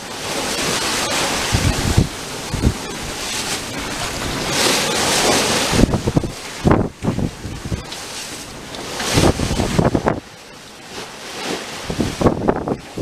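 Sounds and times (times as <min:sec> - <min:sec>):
wind buffeting microphone: 0:00.0 - 0:10.4, 0:11.4 - 0:13.0
waves rushing along hull: 0:00.0 - 0:13.0.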